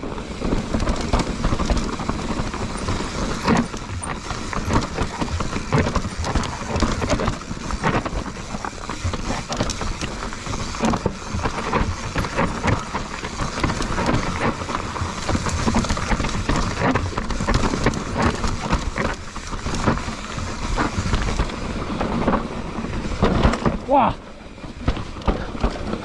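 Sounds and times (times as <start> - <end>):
mountain bike clattering over rocks: 0.2 - 26.0.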